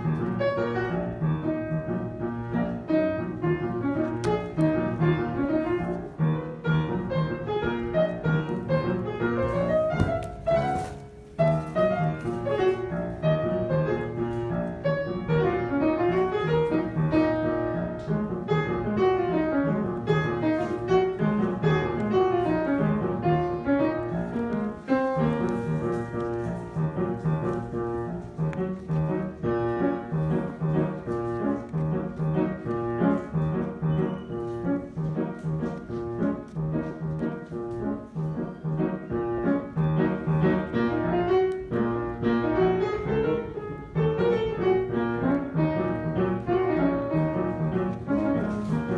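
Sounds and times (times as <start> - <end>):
piano melody: 0.0 - 48.9.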